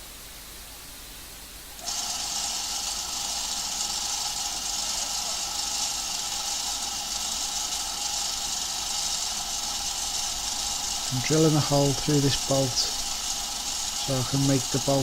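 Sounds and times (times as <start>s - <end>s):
power drill whining: 1.8s - 15.0s.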